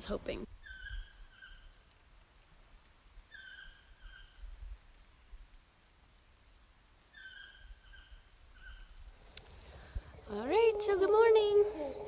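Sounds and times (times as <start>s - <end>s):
insect high-pitched trill: 0.3s - 4.7s, 5.3s - 12.0s.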